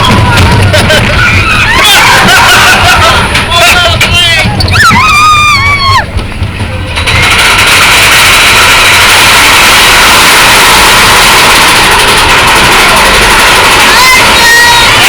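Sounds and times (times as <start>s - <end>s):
roller coaster roaring on track: 0.0s - 15.0s.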